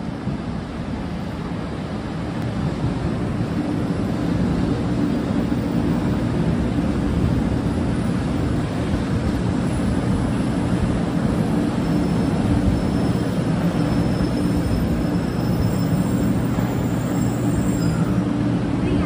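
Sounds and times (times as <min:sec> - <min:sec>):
train wheel and air rush: 0:00.0 - 0:19.0.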